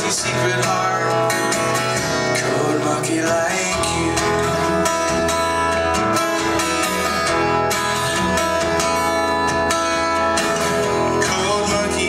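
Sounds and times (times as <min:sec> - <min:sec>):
guitar strumming: 0:00.0 - 0:12.0
live pop-rock band playing: 0:00.0 - 0:12.0.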